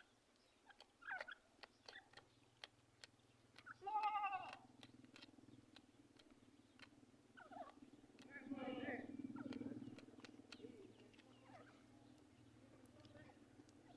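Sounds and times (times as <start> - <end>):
sharp clicks: 0.0 - 8.4, 9.0 - 13.9.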